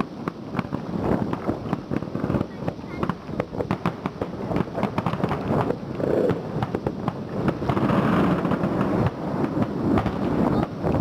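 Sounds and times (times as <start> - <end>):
fireworks crackling: 0.0 - 11.0
steady rushing noise: 0.0 - 11.0.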